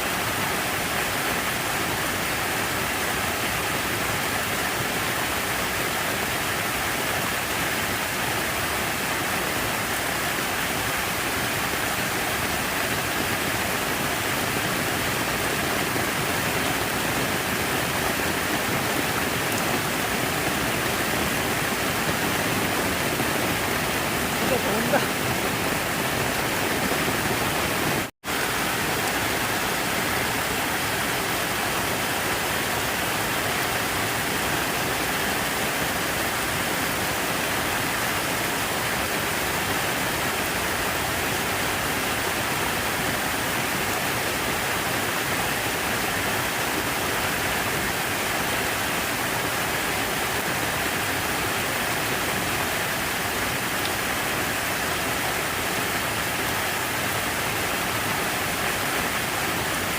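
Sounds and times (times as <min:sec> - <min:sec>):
rush of falling water: 0:00.0 - 0:59.9.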